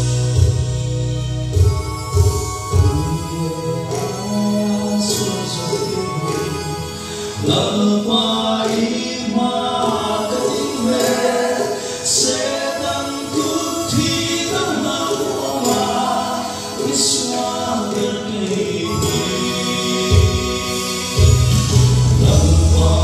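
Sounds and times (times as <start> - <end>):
male vocal group singing gospel: 2.7 - 23.0.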